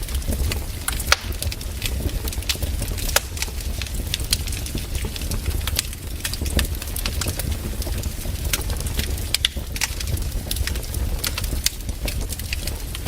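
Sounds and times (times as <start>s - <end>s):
steady low rumble: 0.0s - 13.0s
wood fire crackling and popping: 0.0s - 13.0s.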